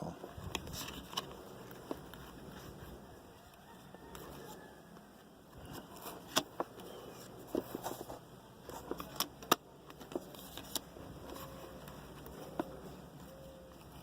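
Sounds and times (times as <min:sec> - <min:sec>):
trading cards being handled: 0:00.2 - 0:14.0.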